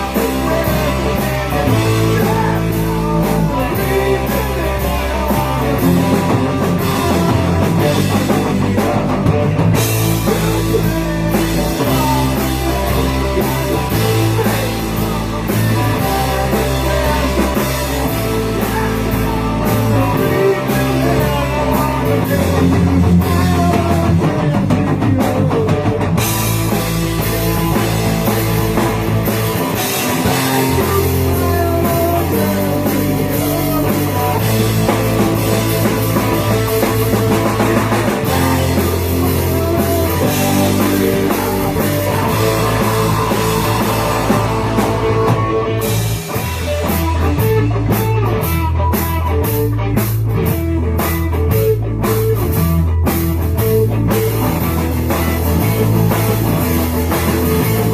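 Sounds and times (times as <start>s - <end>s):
instrumental rock band: 0.0s - 57.9s.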